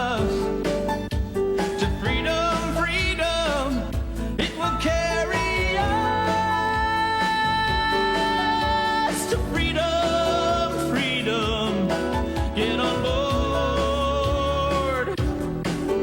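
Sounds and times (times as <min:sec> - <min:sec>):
person singing with vibrato: 0:00.0 - 0:00.7, 0:01.8 - 0:15.6
instrumental accompaniment: 0:00.0 - 0:16.0.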